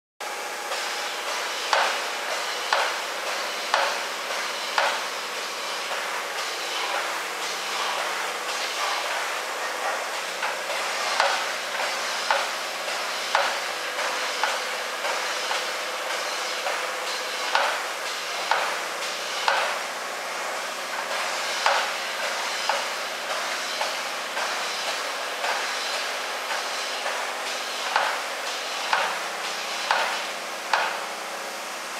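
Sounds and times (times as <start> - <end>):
electric pumps whining: 0.2 - 31.9
sharp hydraulic clacks: 0.7 - 19.8, 21.0 - 31.1.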